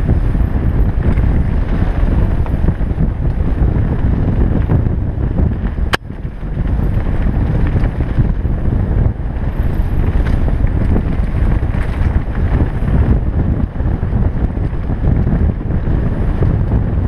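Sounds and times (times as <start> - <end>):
mountain bike rumbling and rattling: 0.0 - 17.0
wind buffeting microphone: 0.0 - 17.0.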